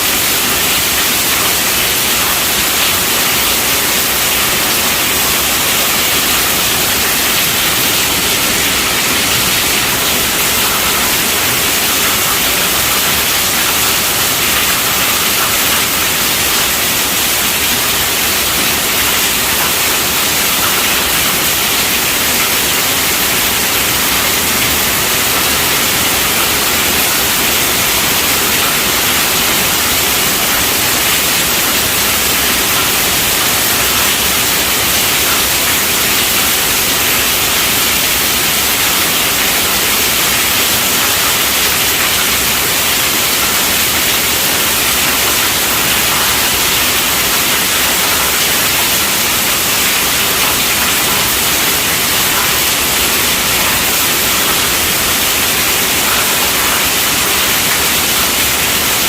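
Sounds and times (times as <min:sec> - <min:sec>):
heavy rain on a tent: 0:00.0 - 0:59.0.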